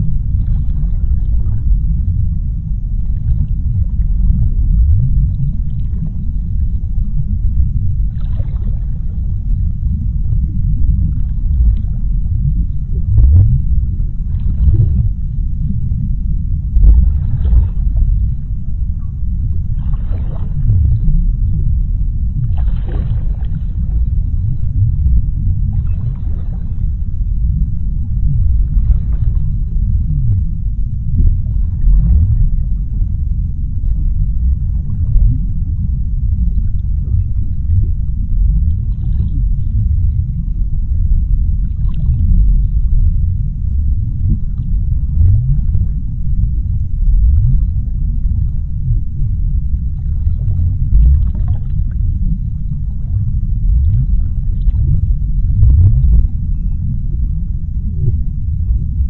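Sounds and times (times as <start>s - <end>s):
deep underwater rumble: 0.0s - 59.0s
underwater swooping and bubbling: 0.0s - 59.0s.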